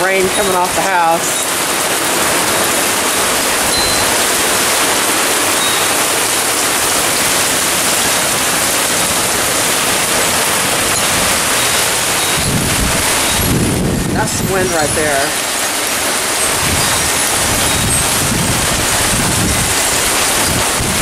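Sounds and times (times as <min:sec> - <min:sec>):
heavy rain hiss: 0:00.0 - 0:21.0
water splashing off roof: 0:00.0 - 0:21.0.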